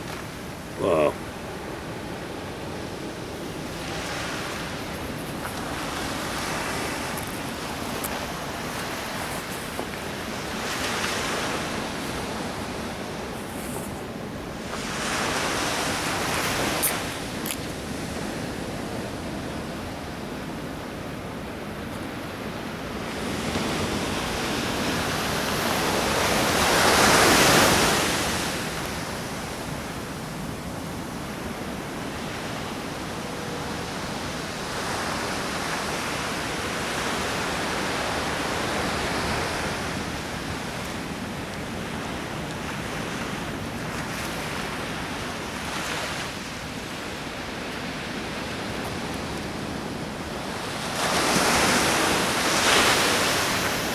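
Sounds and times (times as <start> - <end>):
ocean surf washing onto shore: 0.0 - 53.9.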